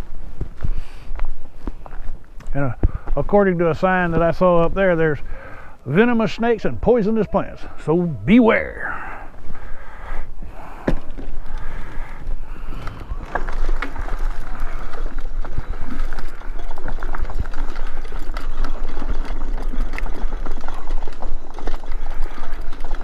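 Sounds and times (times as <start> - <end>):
mobility scooter rumbling: 0.0 - 23.0
tyres crackling over leaves and grit: 0.6 - 23.0.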